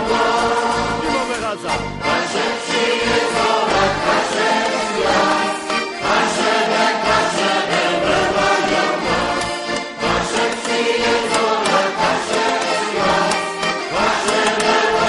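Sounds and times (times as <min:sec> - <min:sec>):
choir singing with accompaniment: 0:00.0 - 0:01.2, 0:01.9 - 0:15.0.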